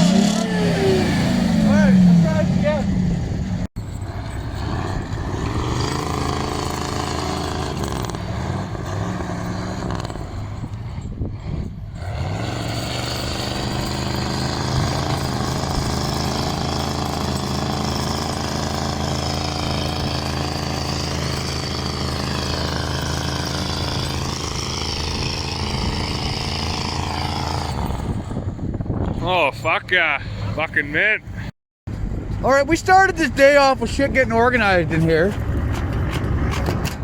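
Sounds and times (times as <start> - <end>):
rattly diesel engine: 0.0 - 37.0.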